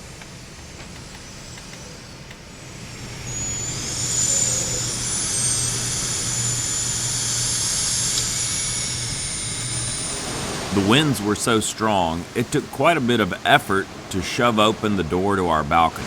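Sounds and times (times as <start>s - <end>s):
storm wind rushing and whistling: 0.0s - 16.0s.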